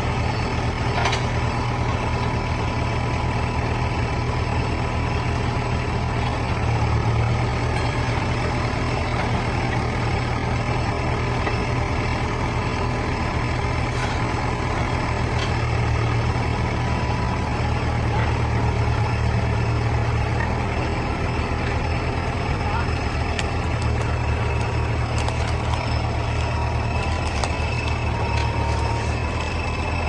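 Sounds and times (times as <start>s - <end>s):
diesel machinery engine droning: 0.0s - 30.0s.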